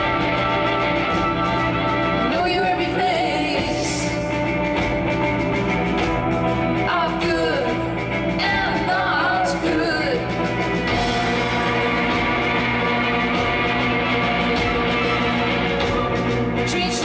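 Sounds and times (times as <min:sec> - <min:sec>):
drums: 0:00.0 - 0:17.0
electric guitar: 0:00.0 - 0:17.0
violin: 0:00.0 - 0:17.0.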